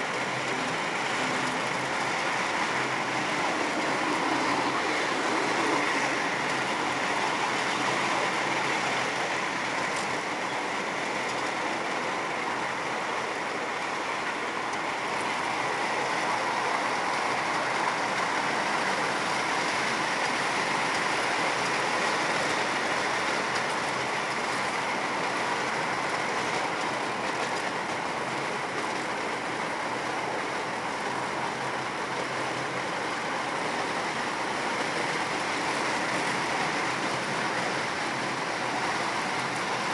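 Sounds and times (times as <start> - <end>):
train wheels rattling on rails: 0.0 - 39.9.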